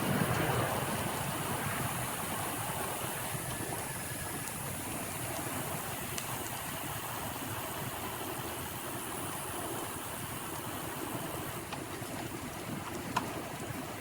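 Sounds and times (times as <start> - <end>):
bicycle tyres rolling on pavement: 0.0 - 14.0
wind rumbling on microphone: 0.0 - 14.0.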